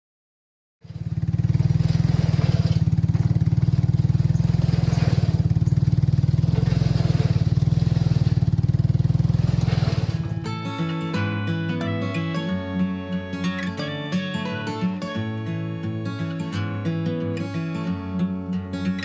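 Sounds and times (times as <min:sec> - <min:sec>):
small gasoline engine running: 0:00.8 - 0:19.0.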